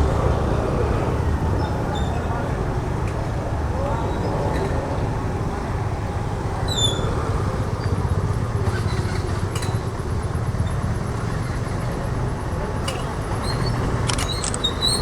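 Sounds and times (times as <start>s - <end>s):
motor scooter engine rumble: 0.0s - 15.0s.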